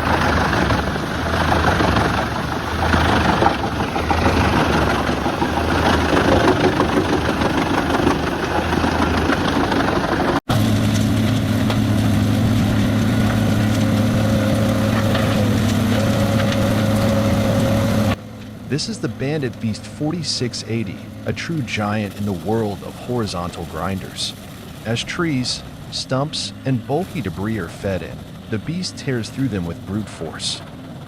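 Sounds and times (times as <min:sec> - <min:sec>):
grinder engine running: 0:00.0 - 0:31.0
wood chipper: 0:00.0 - 0:31.0.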